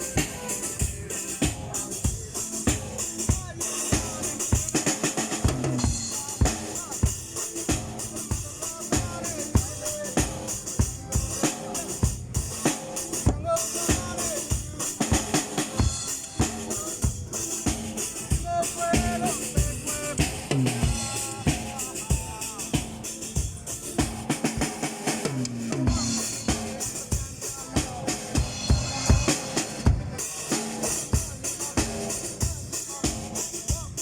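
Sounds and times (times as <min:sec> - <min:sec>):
bass and pitched instruments: 0:00.0 - 0:34.0
drum kit beat: 0:00.0 - 0:34.0.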